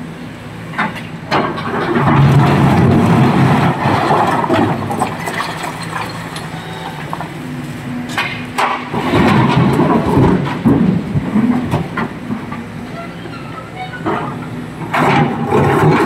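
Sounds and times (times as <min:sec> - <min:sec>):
excavator diesel engine working: 0:00.0 - 0:16.0.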